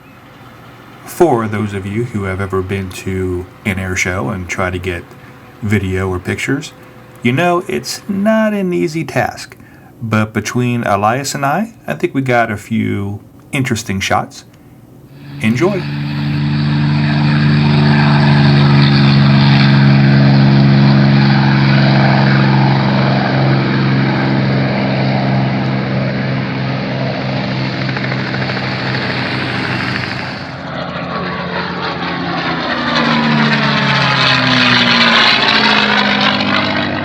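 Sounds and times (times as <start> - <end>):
propeller aircraft flying by: 0.0 - 9.0, 15.1 - 37.0.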